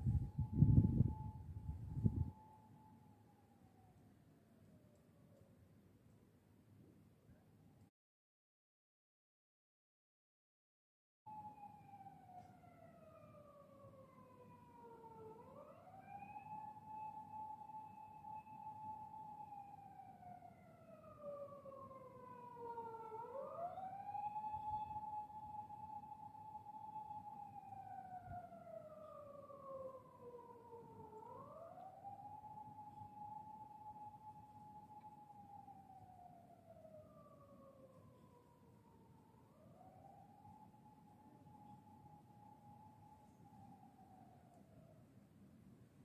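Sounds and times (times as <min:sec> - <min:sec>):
faint siren: 0:00.0 - 0:06.2, 0:11.3 - 0:46.0.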